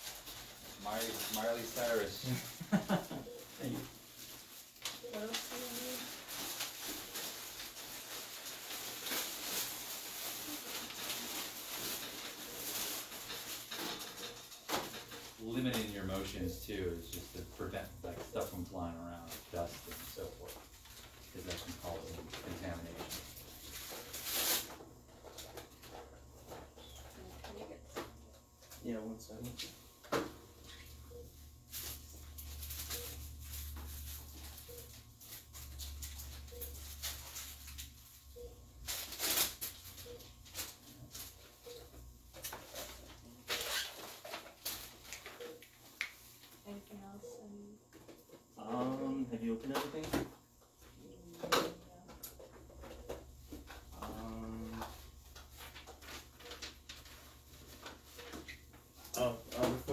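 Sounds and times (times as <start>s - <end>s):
rustling and crinkling materials: 0.0s - 59.9s.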